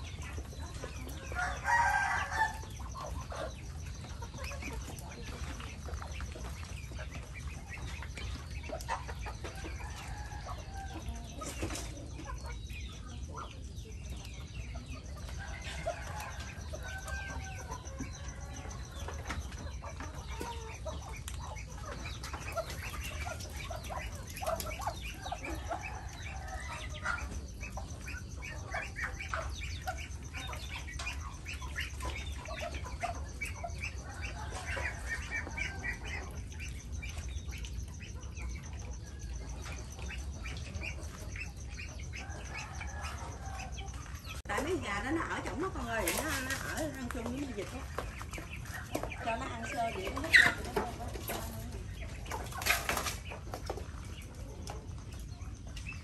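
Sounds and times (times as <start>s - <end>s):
chickens clucking and cackling: 0.0s - 56.0s.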